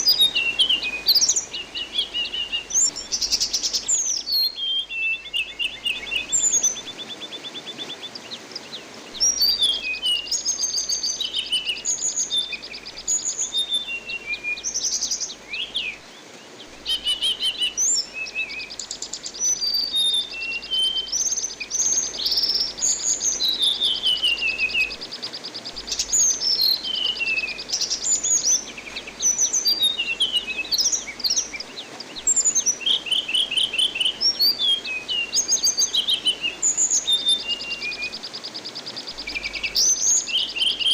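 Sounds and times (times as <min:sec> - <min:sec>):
flowing water hiss: 0:00.0 - 0:40.9.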